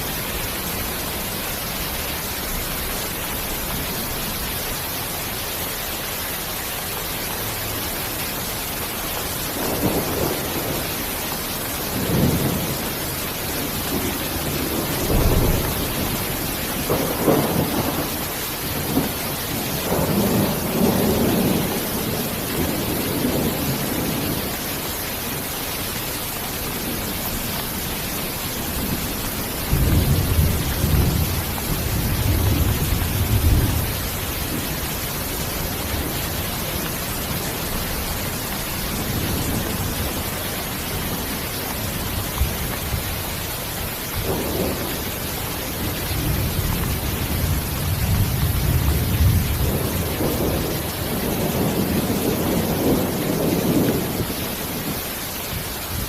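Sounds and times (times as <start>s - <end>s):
steady rain: 0.0s - 56.0s
thunder rumbling: 9.0s - 24.9s, 26.5s - 56.0s.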